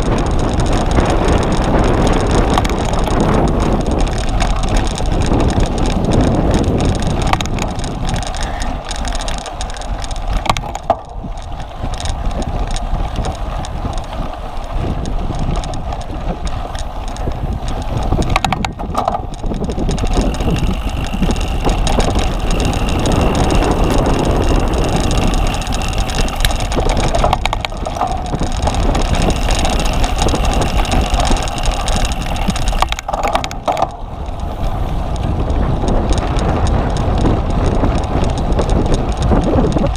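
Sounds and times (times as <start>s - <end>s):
bicycle knocks and rattles: 0.0s - 39.9s
wind buffeting microphone: 0.0s - 39.9s.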